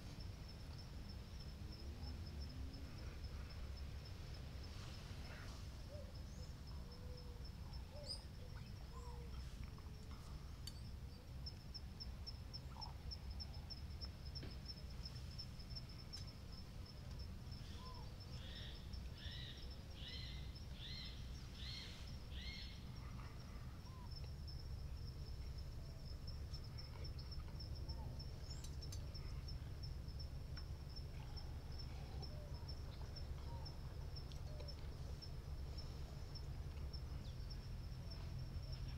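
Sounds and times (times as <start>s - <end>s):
low steady rumble: 0.0s - 38.9s.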